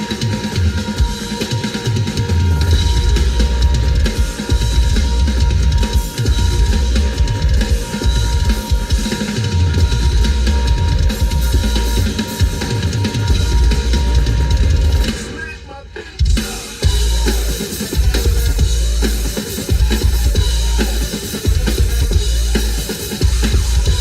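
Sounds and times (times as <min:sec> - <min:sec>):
music with drums and heavy bass: 0:00.0 - 0:24.0.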